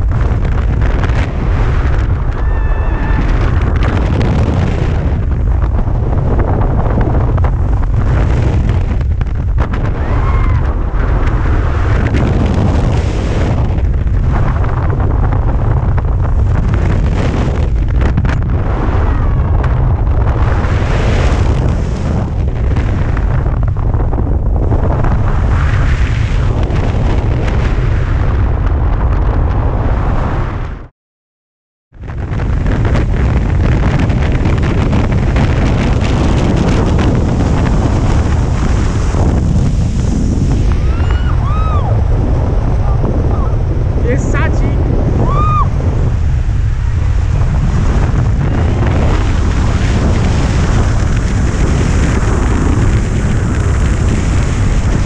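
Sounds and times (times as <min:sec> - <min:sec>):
wind buffeting microphone: 0:00.0 - 0:30.9, 0:31.9 - 0:55.0.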